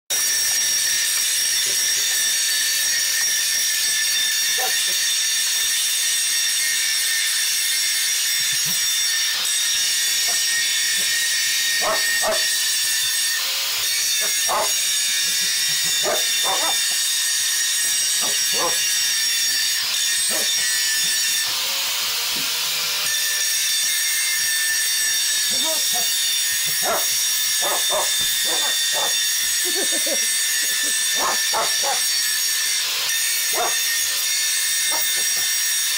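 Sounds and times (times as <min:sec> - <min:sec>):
angle grinder cutting metal: 0:00.1 - 0:35.9.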